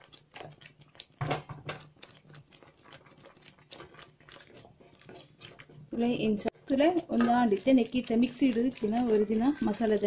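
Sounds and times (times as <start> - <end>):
spatula stirring wet paste: 0.0 - 10.0.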